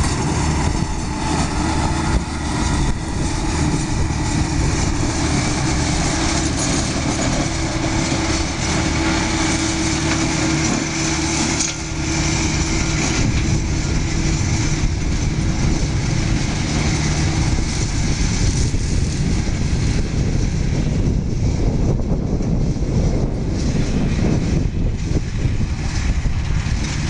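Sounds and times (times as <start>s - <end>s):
mulcher rotor rushing: 0.0s - 27.0s
tractor engine drone: 0.0s - 27.0s.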